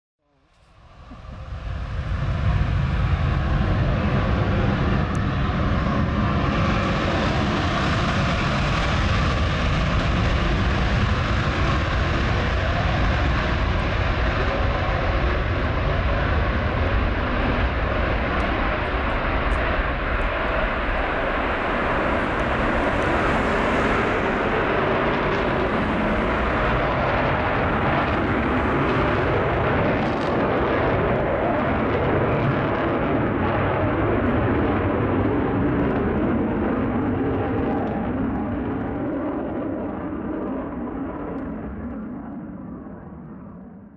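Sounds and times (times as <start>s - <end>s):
jet roar with crackle: 0.6s - 43.8s.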